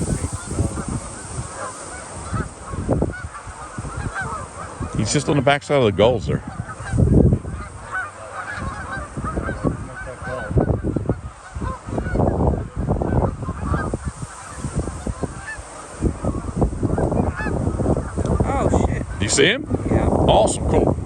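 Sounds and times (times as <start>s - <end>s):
flock of geese honking: 0.0s - 20.0s.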